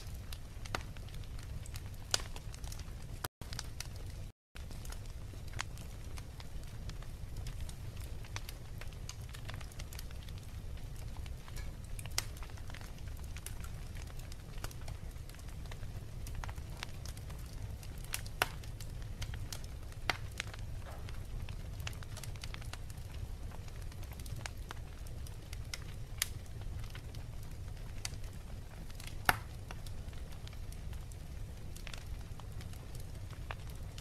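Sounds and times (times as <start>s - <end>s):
log fire crackling and popping: 0.0s - 34.0s
low rumble of fire: 0.0s - 34.0s.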